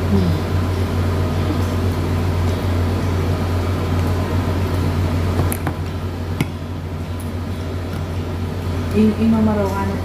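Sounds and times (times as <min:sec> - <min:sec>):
air conditioning hum: 0:00.0 - 0:10.0.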